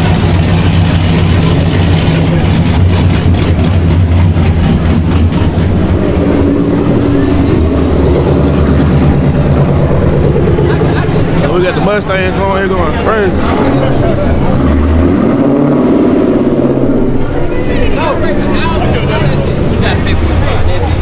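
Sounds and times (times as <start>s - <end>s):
car engine idling choppily: 0.0s - 21.0s
higher engine note: 0.0s - 21.0s.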